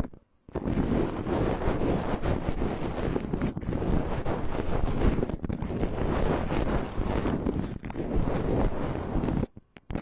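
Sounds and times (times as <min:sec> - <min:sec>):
brush rubbing over microphone: 0:00.0 - 0:10.0.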